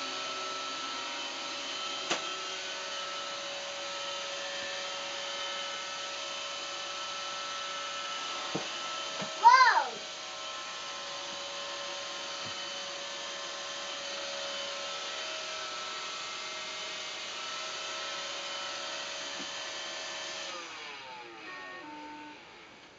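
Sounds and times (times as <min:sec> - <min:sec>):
robot vacuum humming: 0:00.0 - 0:22.9.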